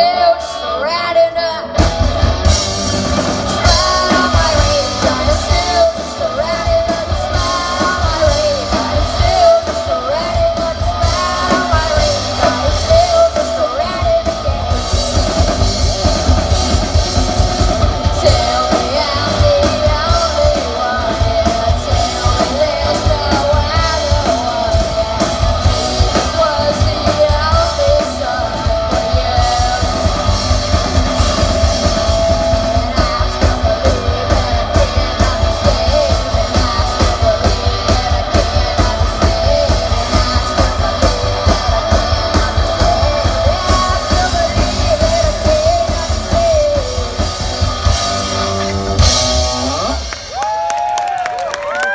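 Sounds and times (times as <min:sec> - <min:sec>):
rock band playing with singing: 0:00.0 - 0:51.9.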